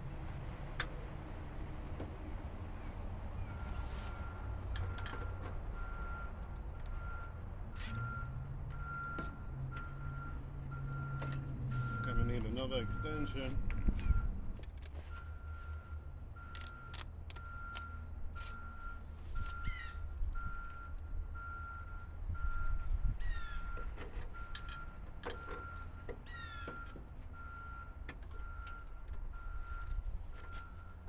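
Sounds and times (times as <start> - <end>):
engine rumbling: 0.0 - 31.0
vehicle backup alarm beeping: 3.4 - 14.4, 15.0 - 31.0.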